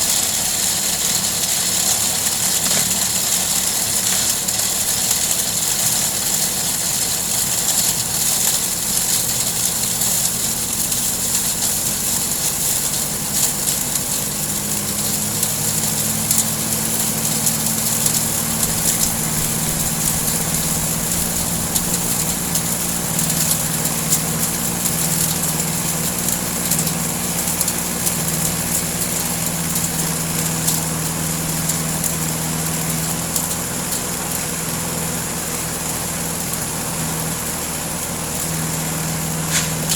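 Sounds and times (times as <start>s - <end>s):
engine running: 0.0s - 39.9s
fine ticking and rattling: 0.0s - 39.9s.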